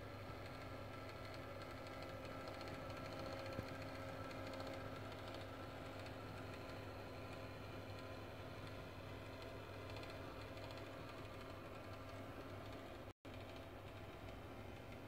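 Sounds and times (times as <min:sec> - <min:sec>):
small electric motor humming: 0:00.0 - 0:15.0.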